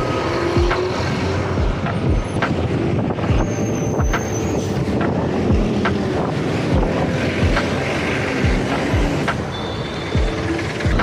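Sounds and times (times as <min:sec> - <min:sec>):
wind rushing over microphone: 0:00.0 - 0:09.5
street traffic engines: 0:00.0 - 0:11.0.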